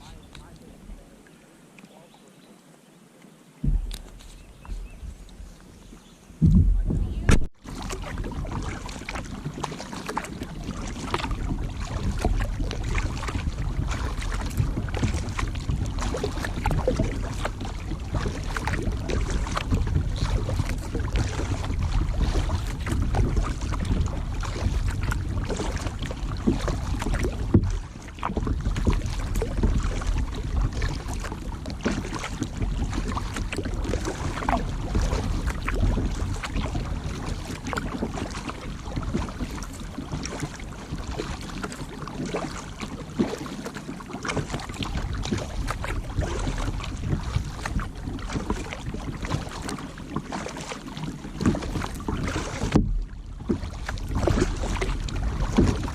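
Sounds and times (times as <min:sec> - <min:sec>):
water splashing and dripping: 0:03.6 - 0:05.7, 0:06.4 - 0:55.9
wind rumbling on microphone: 0:03.6 - 0:43.4, 0:44.3 - 0:50.0, 0:51.2 - 0:55.9.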